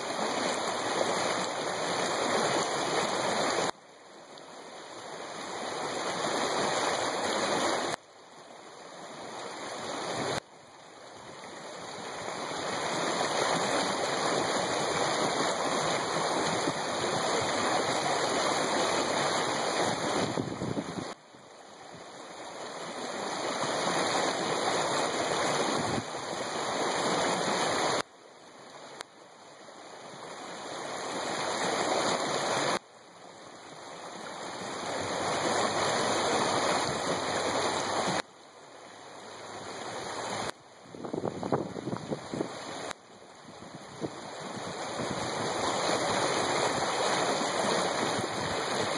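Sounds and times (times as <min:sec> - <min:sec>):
creek water rushing: 0:00.0 - 0:48.9.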